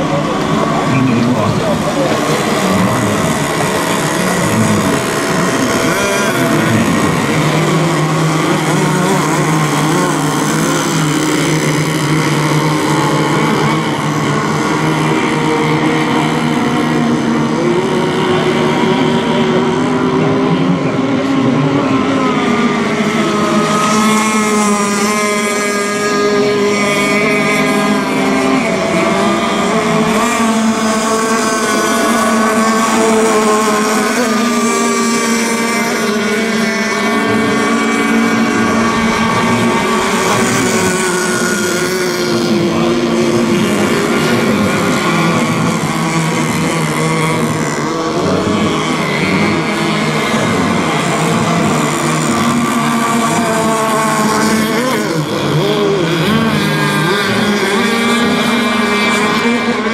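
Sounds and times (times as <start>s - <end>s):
model boat engines racing: 0.0s - 59.9s.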